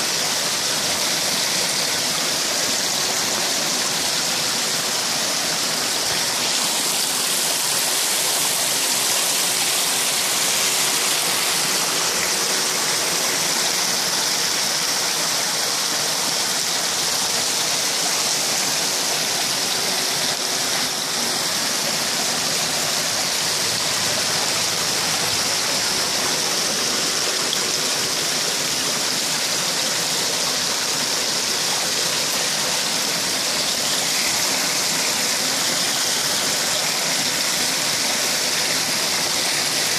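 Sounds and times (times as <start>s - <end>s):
water splashing into pond: 0.0s - 39.9s.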